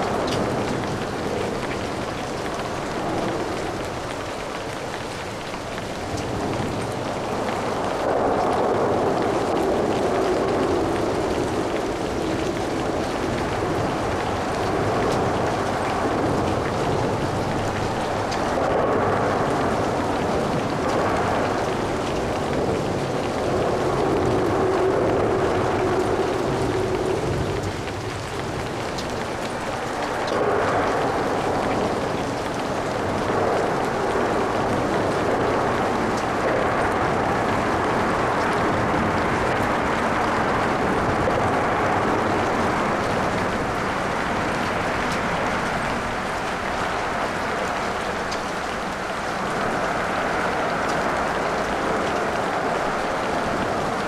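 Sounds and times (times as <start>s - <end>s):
light rain falling: 0.0s - 54.0s
traffic hissing on wet road: 0.0s - 54.0s.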